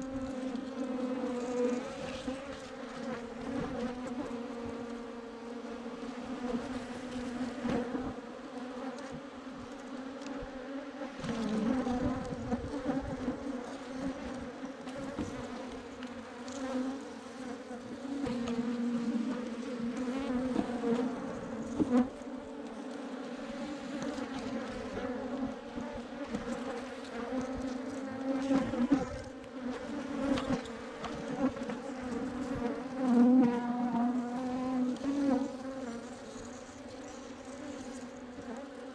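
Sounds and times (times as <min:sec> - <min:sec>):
honeybee swarm buzzing: 0:00.0 - 0:38.9.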